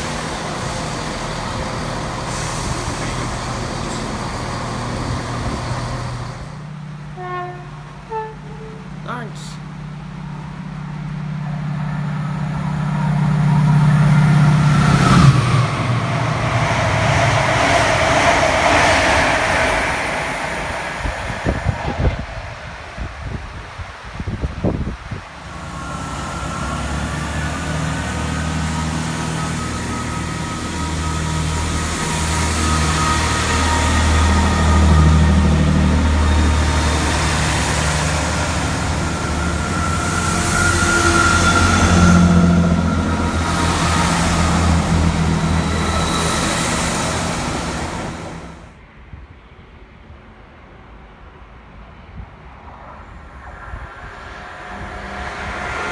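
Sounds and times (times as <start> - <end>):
high whine: 0.0 - 48.8, 53.0 - 55.9
diesel train engine drone: 0.0 - 55.9.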